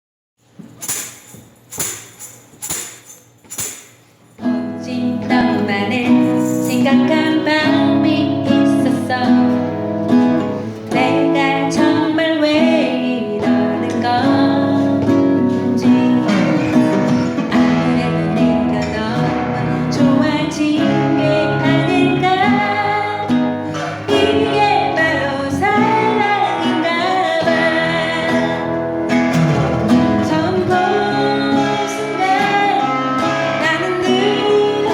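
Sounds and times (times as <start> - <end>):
acoustic guitar playing: 0.4 - 34.9
woman singing: 4.6 - 9.9, 10.9 - 29.1, 30.0 - 34.9.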